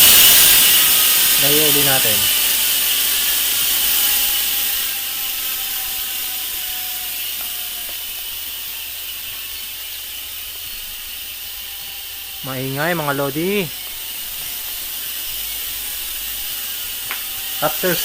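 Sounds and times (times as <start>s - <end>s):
bicycle hub ratcheting: 0.0s - 18.0s.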